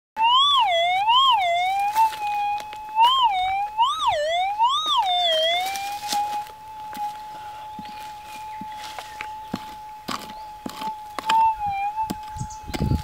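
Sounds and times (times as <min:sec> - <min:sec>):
metal detector tone rising and falling: 0:00.2 - 0:13.0.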